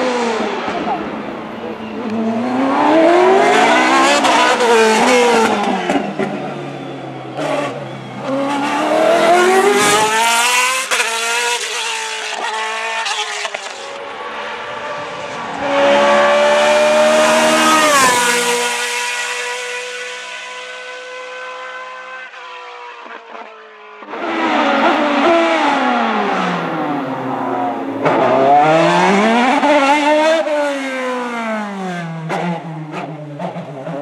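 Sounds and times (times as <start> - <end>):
racing car engine at full throttle: 0.0 - 34.0.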